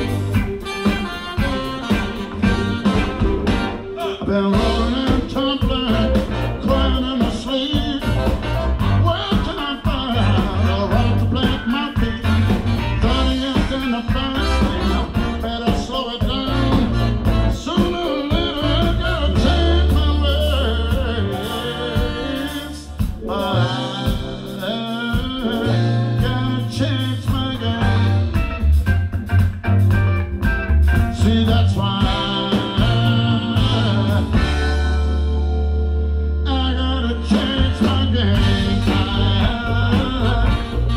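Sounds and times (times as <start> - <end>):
horn section: 0.0 - 40.9
live blues soul band playing: 0.0 - 40.9.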